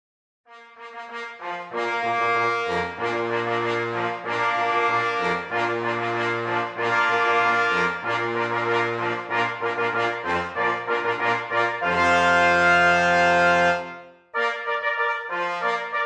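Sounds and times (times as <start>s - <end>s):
brass fanfare chords: 0.5s - 16.0s.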